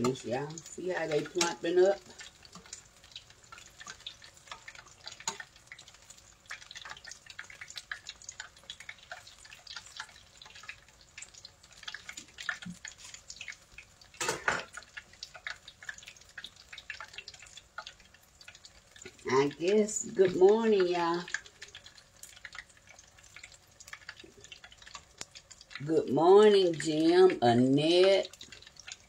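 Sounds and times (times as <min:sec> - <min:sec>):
oil sizzling and crackling: 0:00.0 - 0:29.0.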